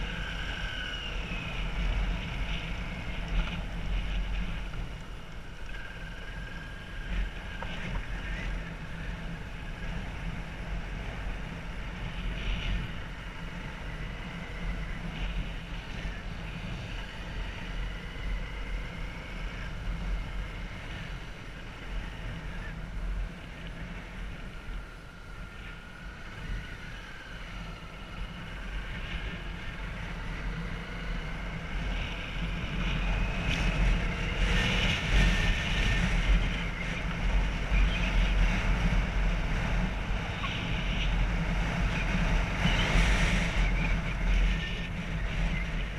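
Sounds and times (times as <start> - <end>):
faint whine: 0.0 - 45.9
wind buffeting microphone: 0.0 - 45.9.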